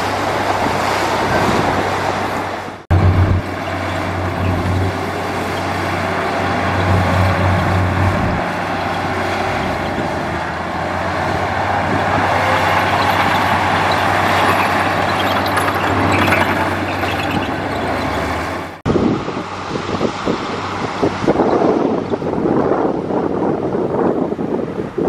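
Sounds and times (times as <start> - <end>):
diesel machinery engine drone: 0.0 - 23.7
wind buffeting microphone: 0.0 - 25.0.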